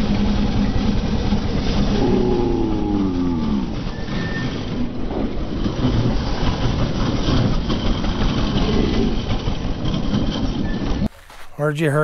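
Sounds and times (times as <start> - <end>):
minibike engine running: 0.0 - 11.4.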